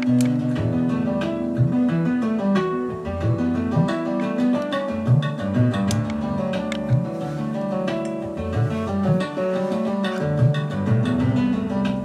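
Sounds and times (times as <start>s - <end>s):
cassette music with plucked notes: 0.0s - 12.0s.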